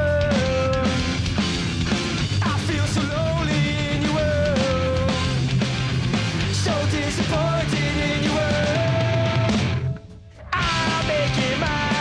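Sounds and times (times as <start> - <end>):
drums: 0.0 - 12.0
electric guitar: 0.0 - 12.0
man singing rock song: 0.0 - 12.0.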